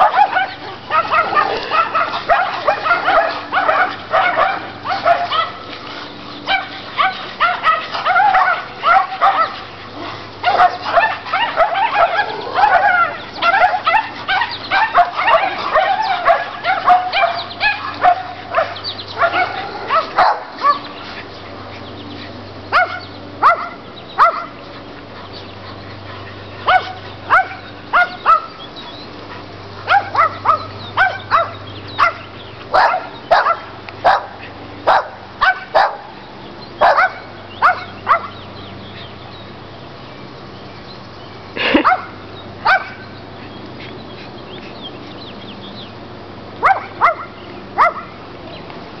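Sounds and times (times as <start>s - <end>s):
dogs barking: 0.0s - 21.8s, 22.7s - 36.2s, 36.8s - 38.5s, 41.6s - 43.2s, 46.6s - 48.2s.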